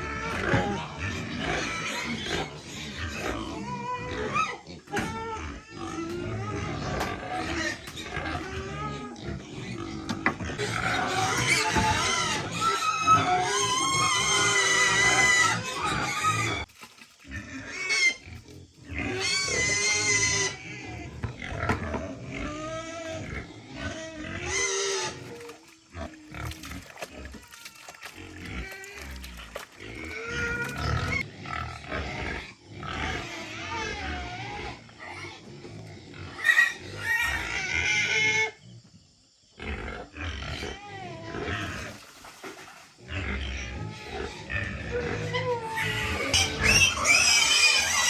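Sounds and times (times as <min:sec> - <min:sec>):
pigs squealing: 0:00.0 - 0:38.6, 0:39.6 - 0:48.0.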